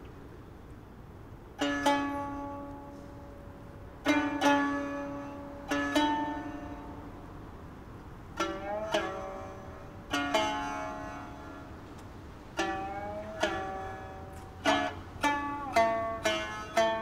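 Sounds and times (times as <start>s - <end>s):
plucked string instrument notes: 1.3s - 17.0s.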